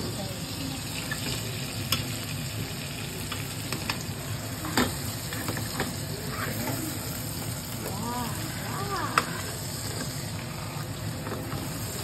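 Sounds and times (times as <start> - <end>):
steak sizzling in butter: 0.0 - 12.0.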